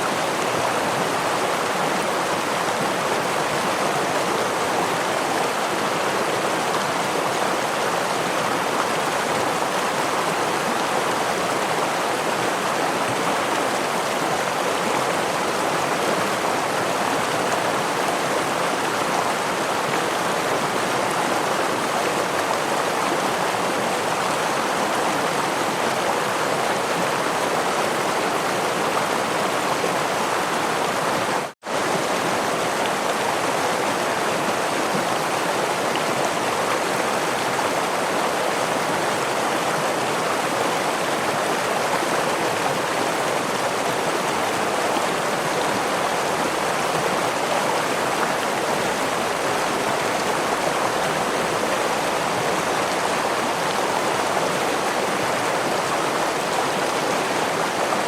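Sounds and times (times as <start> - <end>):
stream rushing over waterfall: 0.0 - 58.0.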